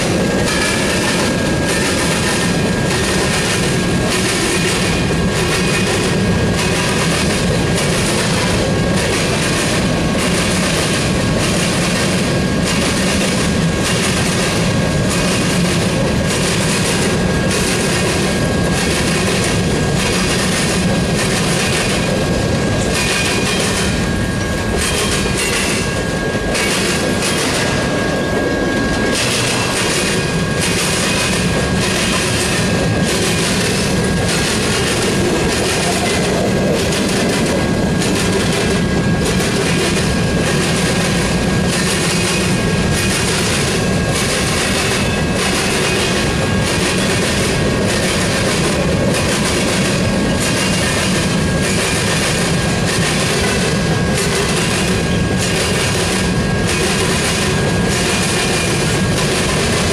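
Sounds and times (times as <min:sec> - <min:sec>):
freight train rumble: 0:00.0 - 0:59.9
train wheels clicking over rail joints: 0:00.0 - 0:59.9.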